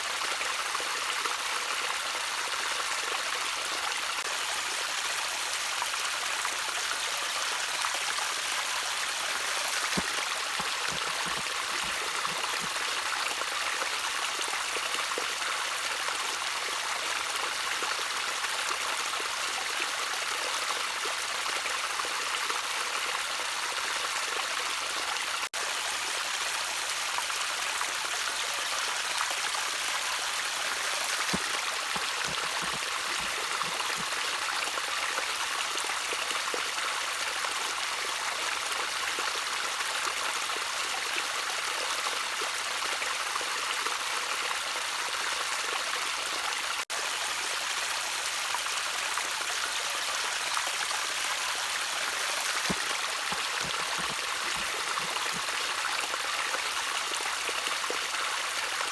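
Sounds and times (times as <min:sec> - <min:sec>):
stream water trickling: 0:00.0 - 0:58.9.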